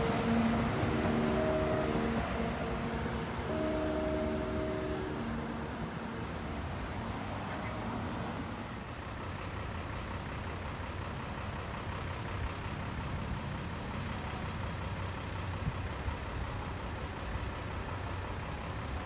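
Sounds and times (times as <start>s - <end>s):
crossing warning bell ringing: 0.0s - 7.4s, 8.6s - 19.0s
road traffic rumble: 0.0s - 19.0s
wind: 0.0s - 19.0s.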